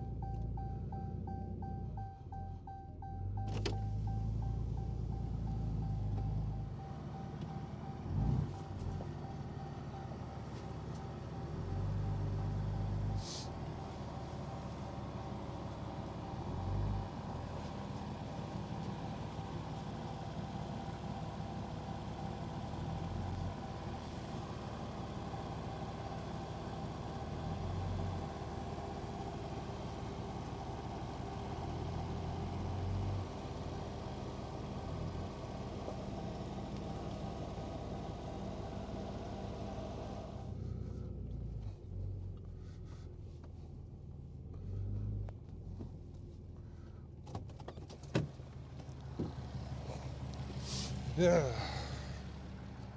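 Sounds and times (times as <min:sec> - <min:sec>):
vehicle engine running: 0:00.0 - 0:52.9.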